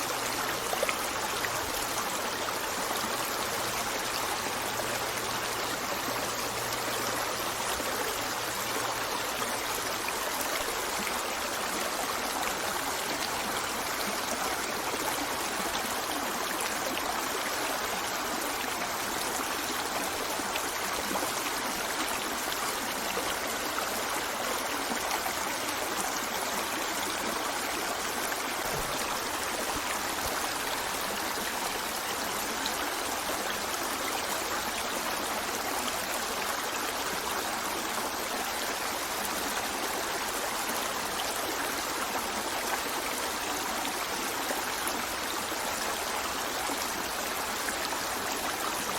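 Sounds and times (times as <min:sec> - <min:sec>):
flowing stream water: 0:00.0 - 0:48.9.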